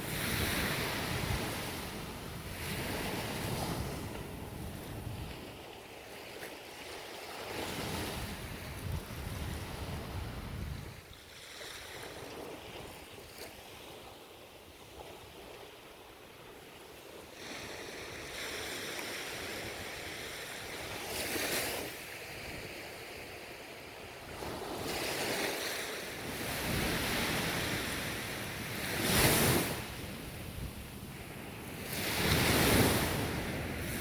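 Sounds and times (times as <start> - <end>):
ocean waves breaking: 0.0 - 14.1, 17.2 - 34.0.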